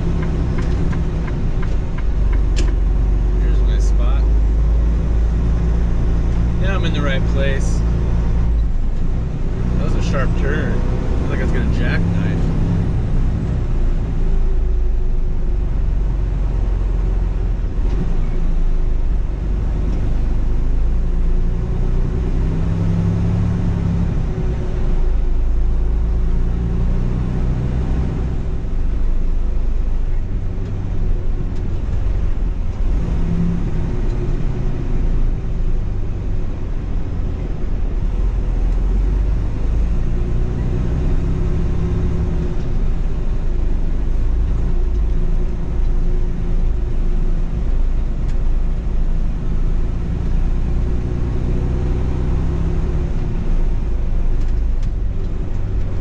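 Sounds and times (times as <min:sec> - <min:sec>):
diesel truck engine droning: 0:00.0 - 0:56.0.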